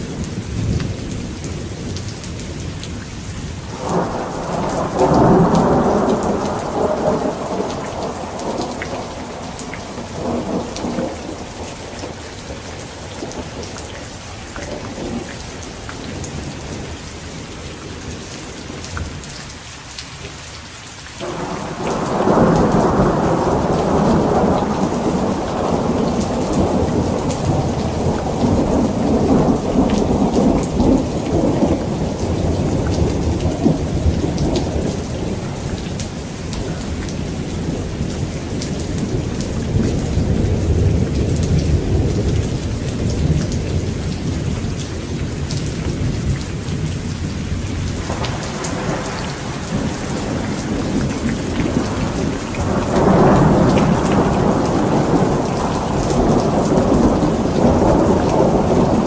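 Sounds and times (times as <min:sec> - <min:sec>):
steady rain: 0:00.0 - 0:59.0
rolling thunder: 0:03.6 - 0:13.9, 0:21.2 - 0:59.0.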